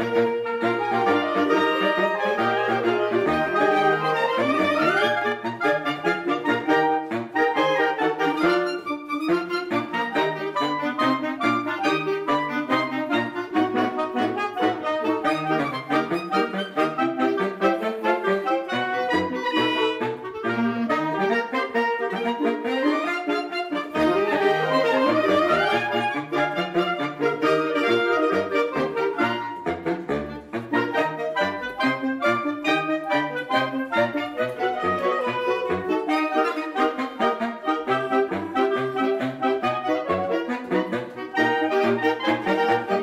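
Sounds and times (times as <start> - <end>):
clarinet and saxophone ensemble: 0.0 - 43.0.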